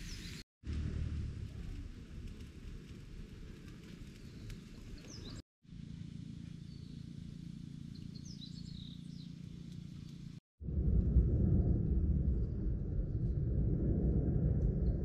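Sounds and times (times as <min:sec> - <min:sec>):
low background rumble: 0:00.6 - 0:15.0.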